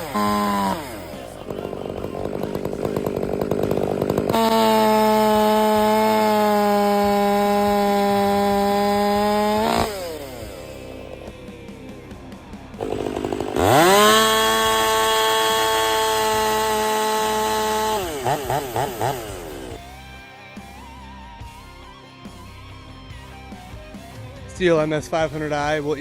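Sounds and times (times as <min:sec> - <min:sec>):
chainsaw cutting logs: 0:00.0 - 0:21.6.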